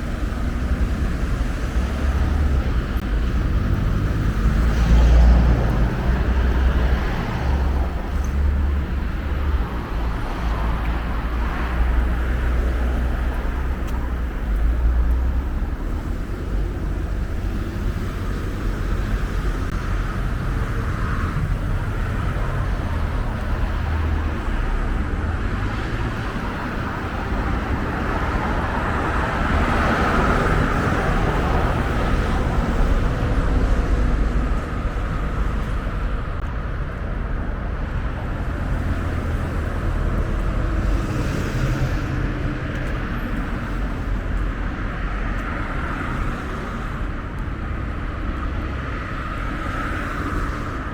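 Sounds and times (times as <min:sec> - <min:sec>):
traffic rumbling past: 0:00.0 - 0:50.9.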